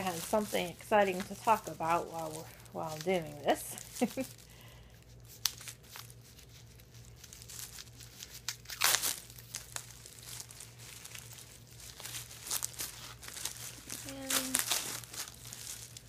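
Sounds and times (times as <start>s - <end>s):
paper wrapping crinkling and tearing: 0.0s - 16.0s.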